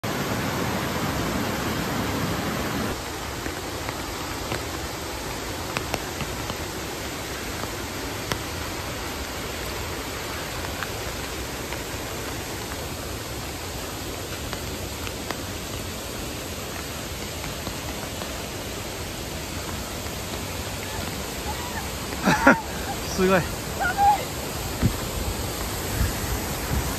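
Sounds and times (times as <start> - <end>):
mountain stream rushing: 0.0 - 26.9.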